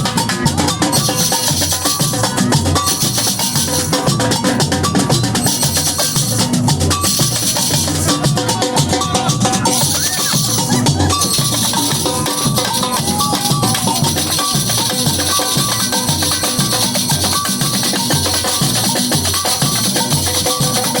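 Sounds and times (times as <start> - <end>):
deep bass drum beats: 0.0 - 21.0
shakers rattling: 0.0 - 21.0.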